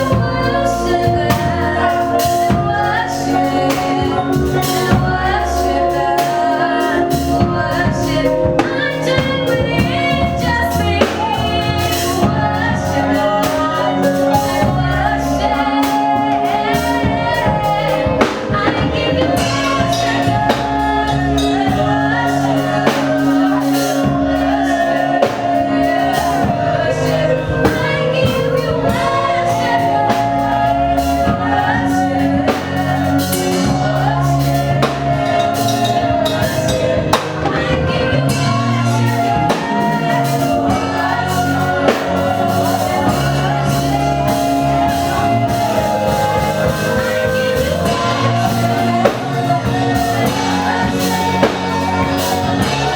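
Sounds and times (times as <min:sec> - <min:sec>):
held instrumental chords: 0:00.0 - 0:52.9
steady drum beat: 0:00.0 - 0:52.9
woman singing: 0:00.0 - 0:52.9.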